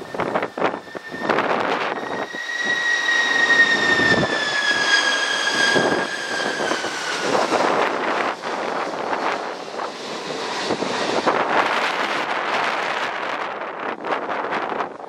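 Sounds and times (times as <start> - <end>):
jet engines whining: 0.0 - 15.0
wind buffeting microphone: 0.0 - 15.0.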